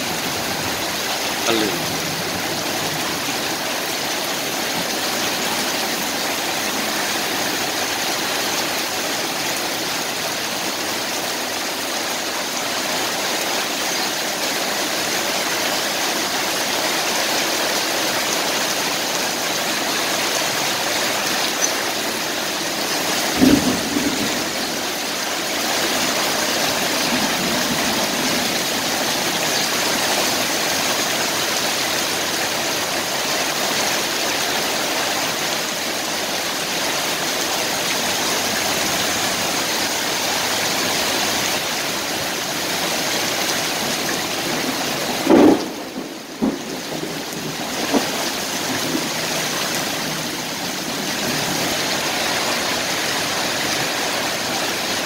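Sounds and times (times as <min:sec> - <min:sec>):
heavy rain on a road: 0:00.0 - 0:55.0.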